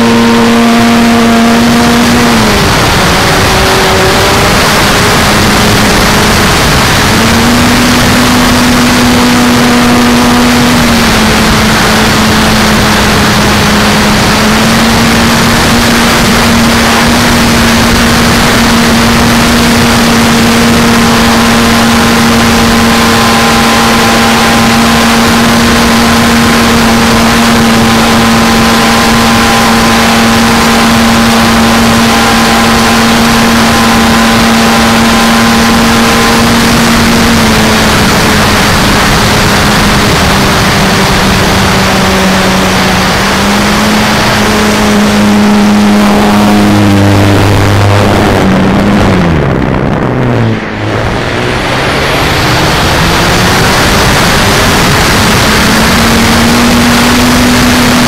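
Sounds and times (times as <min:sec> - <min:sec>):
model plane propeller: 0:00.0 - 0:58.0
rush of air: 0:00.0 - 0:58.0.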